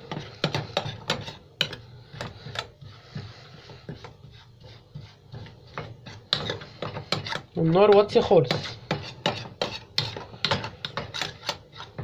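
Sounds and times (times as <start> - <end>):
metal spoon scraping saucepan: 0.0 - 3.3, 3.9 - 12.0.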